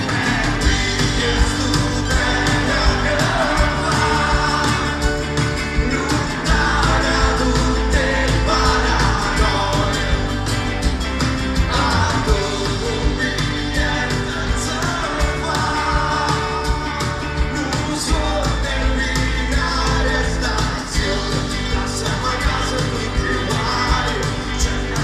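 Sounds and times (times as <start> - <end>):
person singing: 0.0 - 10.7, 11.5 - 25.0
live band playing: 0.0 - 25.0.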